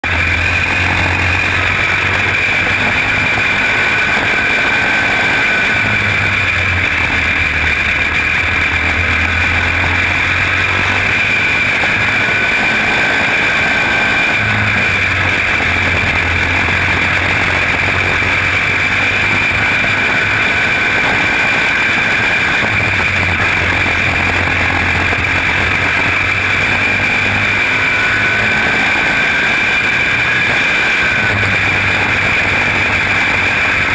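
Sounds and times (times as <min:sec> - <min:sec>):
race car engine high whine: 0:00.0 - 0:33.9
wind noise: 0:00.0 - 0:33.9.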